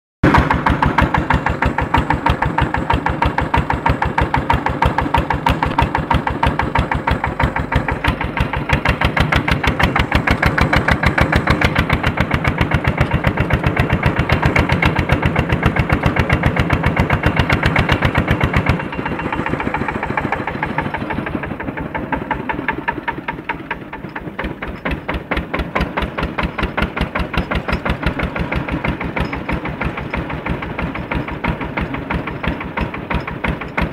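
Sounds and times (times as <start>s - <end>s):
tractor diesel engine chugging: 0.2s - 33.9s.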